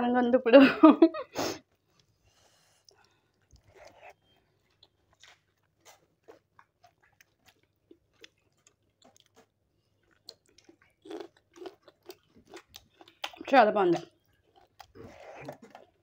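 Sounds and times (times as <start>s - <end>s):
chewing and crunchy bites: 1.7s - 16.0s.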